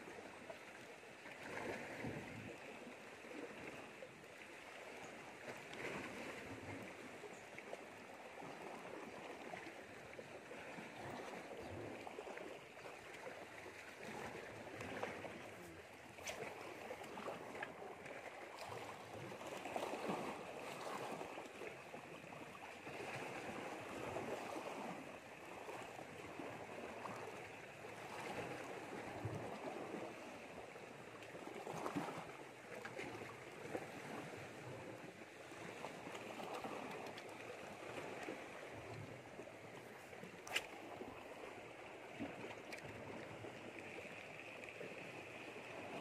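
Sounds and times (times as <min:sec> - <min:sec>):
seawater lapping on rocks: 0:05.3 - 0:46.0.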